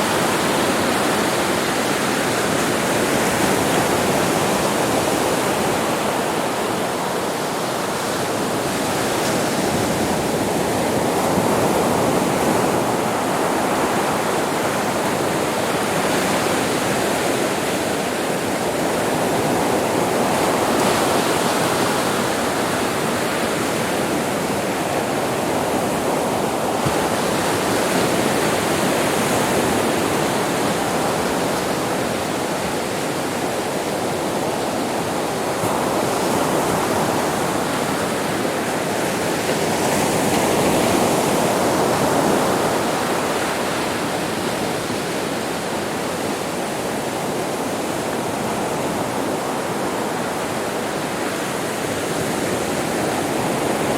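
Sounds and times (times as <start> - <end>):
sea surf on a beach: 0.0 - 53.9.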